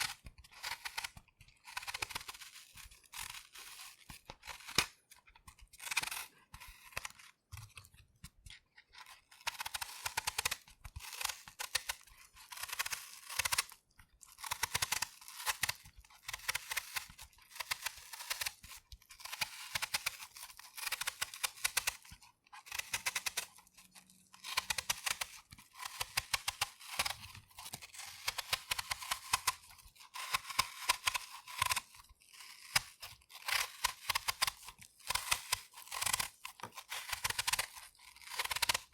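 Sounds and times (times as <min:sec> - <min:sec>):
knife peeling apple skin: 0:00.0 - 0:38.9.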